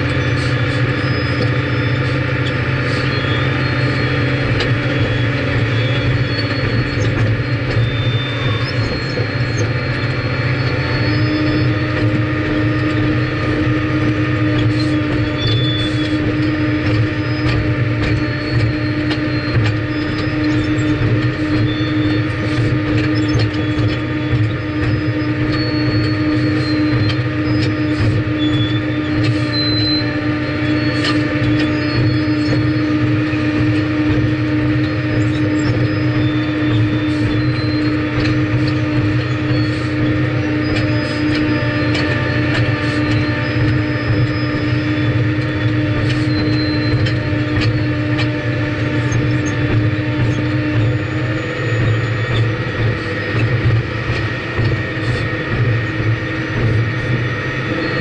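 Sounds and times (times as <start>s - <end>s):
diesel engine under load: 0.0s - 58.0s
high squeaks and ticks: 0.0s - 58.0s
steady whine: 0.0s - 58.0s.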